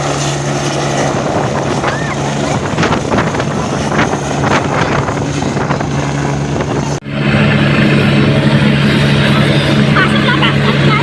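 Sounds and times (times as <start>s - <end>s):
helicopter drone: 0.0s - 11.0s.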